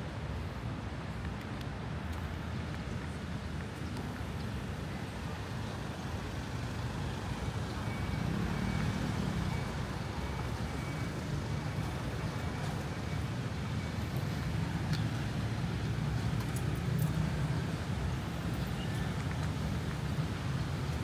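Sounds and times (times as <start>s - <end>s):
car and motorcycle engines rumbling: 2.5s - 21.0s.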